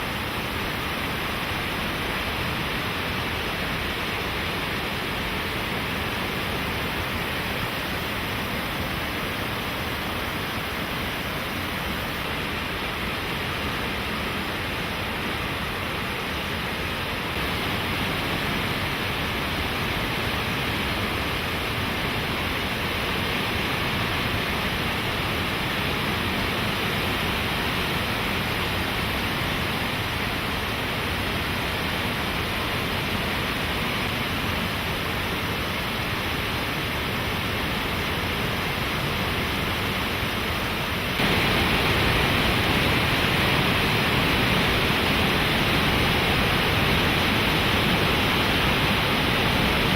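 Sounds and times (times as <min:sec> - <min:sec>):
rushing river water: 0:00.0 - 0:49.9.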